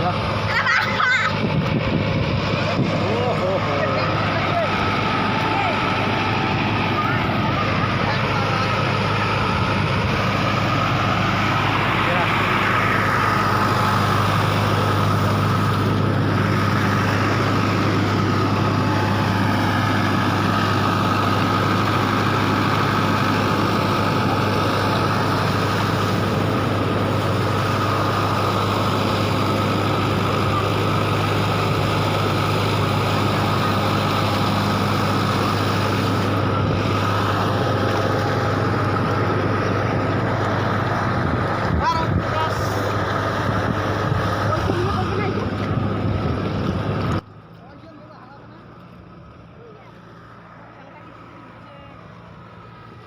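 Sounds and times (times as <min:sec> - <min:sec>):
small engine running steadily: 0:00.0 - 0:53.0.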